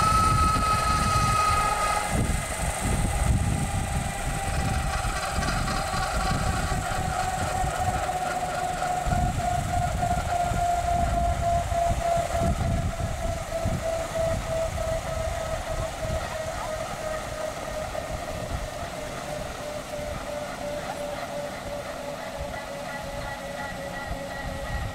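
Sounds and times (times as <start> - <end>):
helicopter engine whine winding down: 0.0 - 24.9.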